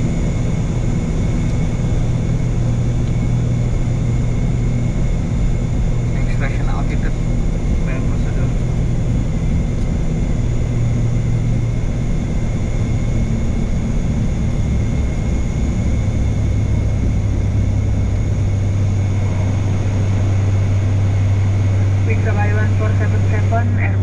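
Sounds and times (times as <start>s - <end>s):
propeller aircraft engine drone: 0.0s - 24.0s.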